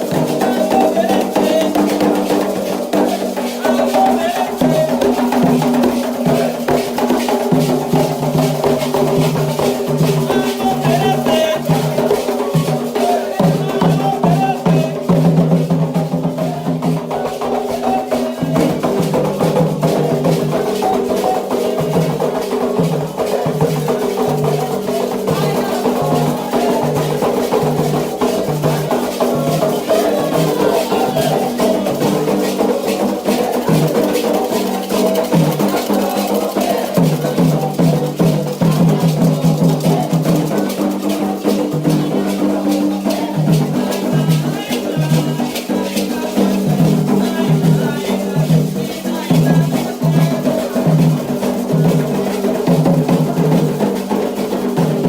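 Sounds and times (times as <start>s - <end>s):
drums beating: 0.0s - 55.0s
voices singing: 0.0s - 55.0s.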